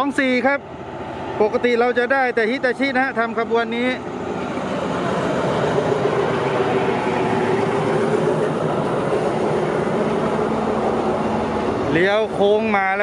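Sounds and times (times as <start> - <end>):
train wheels rushing on rails: 0.2 - 13.0
steady tone: 0.7 - 13.0.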